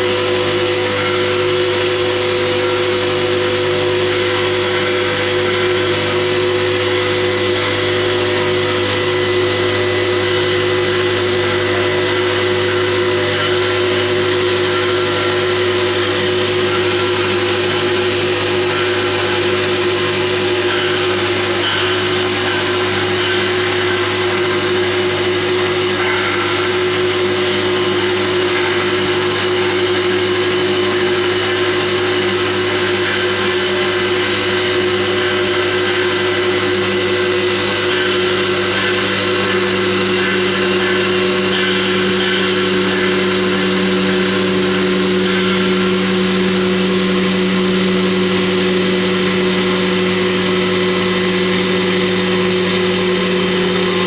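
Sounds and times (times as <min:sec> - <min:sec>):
grinding hiss: 0:00.0 - 0:54.0
polishing machine motor hum: 0:00.0 - 0:54.0.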